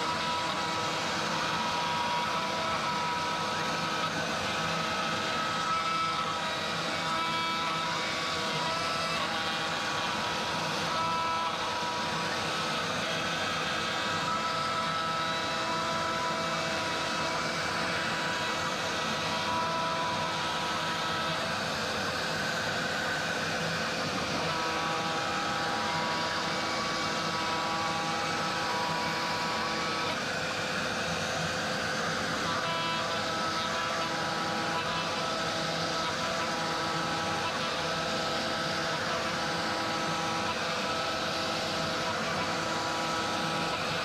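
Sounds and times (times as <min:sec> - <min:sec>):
cnc router milling wood: 0:00.0 - 0:44.0
vacuum hiss: 0:00.0 - 0:44.0
whining machine tones: 0:00.0 - 0:44.0.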